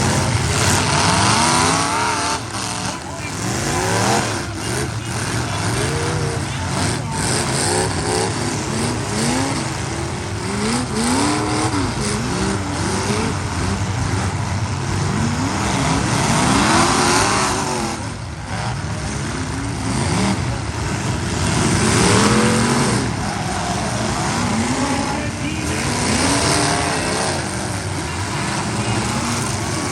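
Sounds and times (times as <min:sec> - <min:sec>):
car engines revving: 0:00.0 - 0:29.9
steady noisy din: 0:00.0 - 0:29.9.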